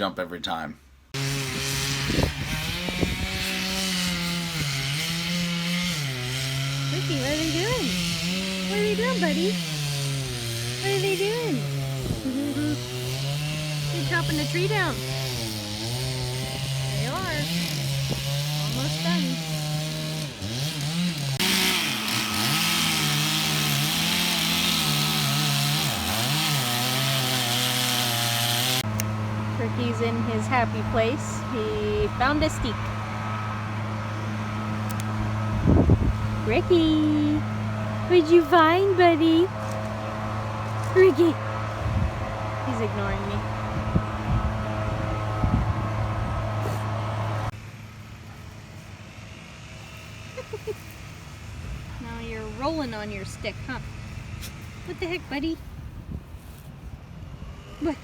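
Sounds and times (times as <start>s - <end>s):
outdoor background: 0.0s - 58.0s
engine humming: 1.1s - 58.0s
chainsaw cutting wood: 1.2s - 58.0s.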